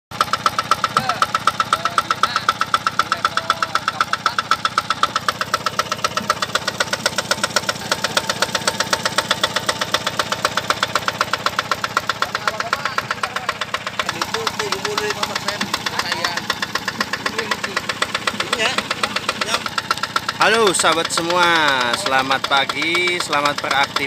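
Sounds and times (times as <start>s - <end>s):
diesel engine running: 0.1s - 24.0s.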